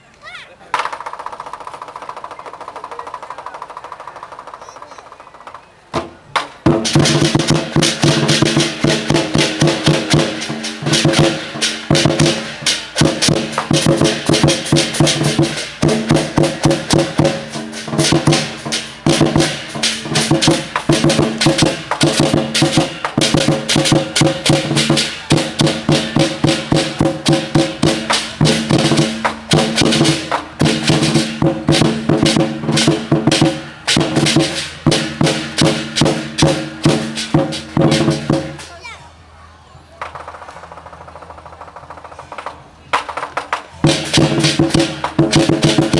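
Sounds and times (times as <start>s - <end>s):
fast loud percussion: 0.7s - 38.8s, 40.0s - 45.9s.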